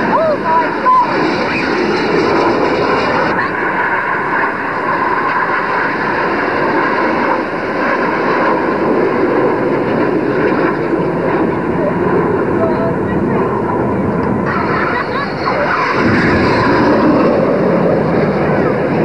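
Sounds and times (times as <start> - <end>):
jet aircraft flying over: 0.0 - 19.0.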